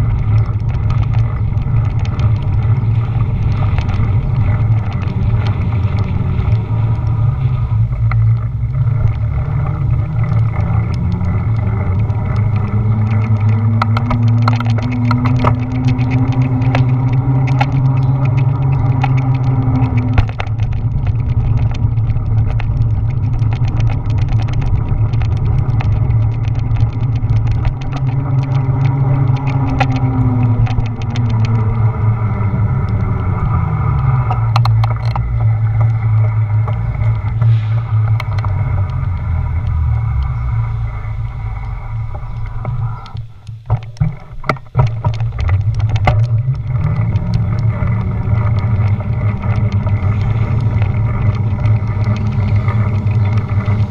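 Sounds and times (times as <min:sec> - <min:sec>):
clicks and rattles: 0:00.0 - 0:53.9
road rumble: 0:00.0 - 0:53.9
wind buffeting: 0:00.0 - 0:53.9.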